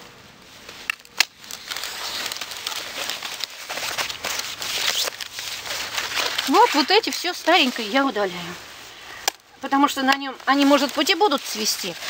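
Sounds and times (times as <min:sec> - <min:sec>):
dry twigs crackling and rustling: 0:00.3 - 0:12.0.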